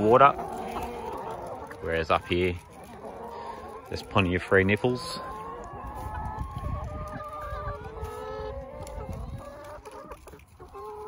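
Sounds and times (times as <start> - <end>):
hens clucking and trilling: 0.0 - 11.0.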